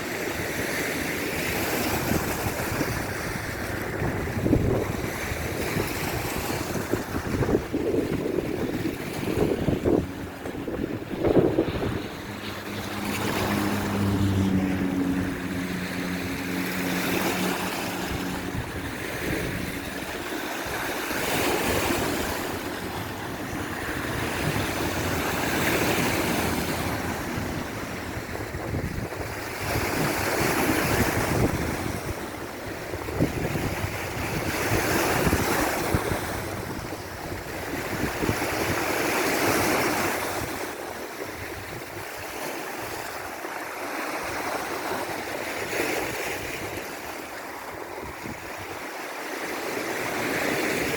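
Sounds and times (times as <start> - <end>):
sea waves breaking on shore: 0.0 - 50.9.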